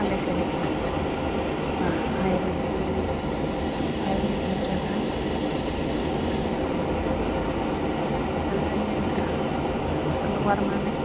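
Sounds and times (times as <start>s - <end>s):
pot boiling on stove: 0.0s - 11.0s.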